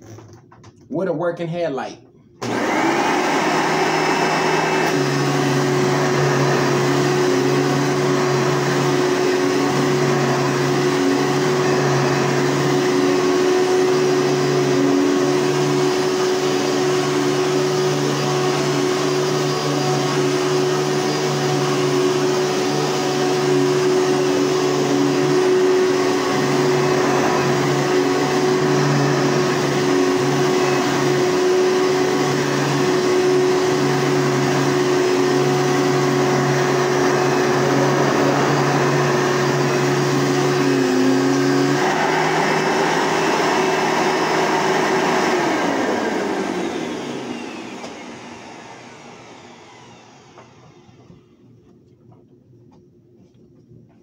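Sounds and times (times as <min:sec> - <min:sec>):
vacuum cleaner running on carpet: 0:02.4 - 0:51.6.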